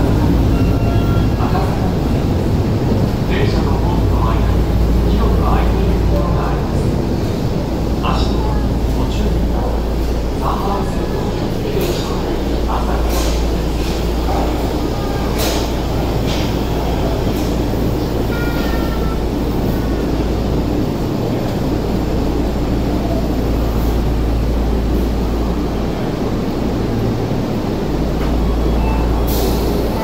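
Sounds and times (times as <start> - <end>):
subway train rumble: 0.0 - 30.0.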